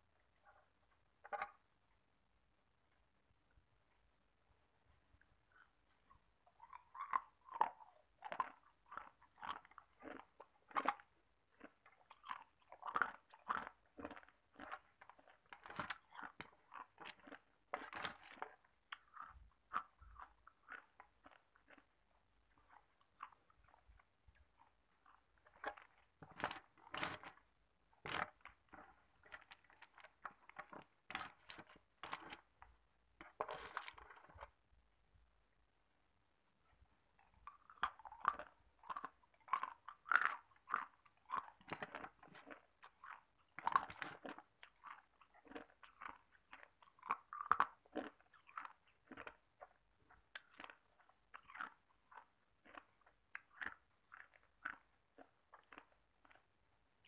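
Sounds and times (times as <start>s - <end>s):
ice cubes crunching in mouth: 6.6s - 23.8s, 24.5s - 34.5s, 37.4s - 56.5s.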